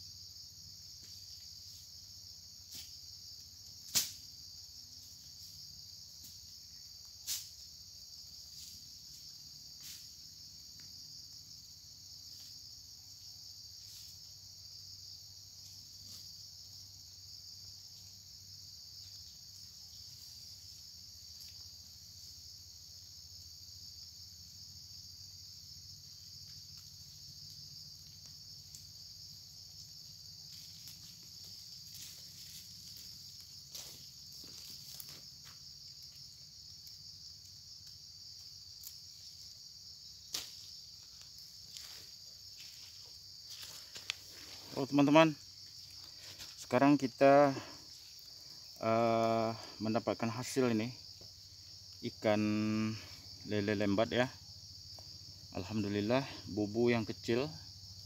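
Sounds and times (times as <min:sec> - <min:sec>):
insects chirping chorus: 0:00.0 - 0:58.0.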